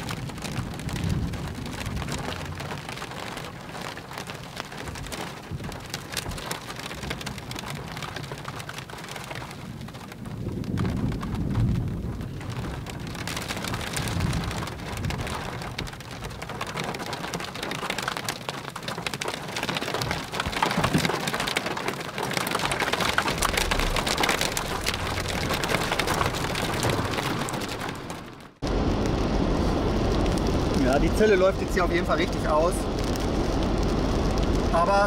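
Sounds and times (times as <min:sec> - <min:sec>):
thunder rumbling: 0:00.0 - 0:17.6, 0:19.6 - 0:35.0
rain on car windshield: 0:00.0 - 0:35.0.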